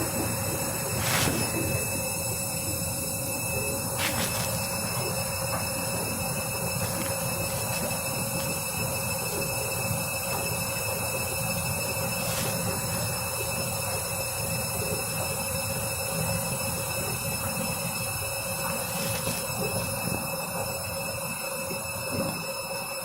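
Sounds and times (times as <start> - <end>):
high motor whine: 0.0 - 23.0
washing machine drum spinning: 0.0 - 23.0.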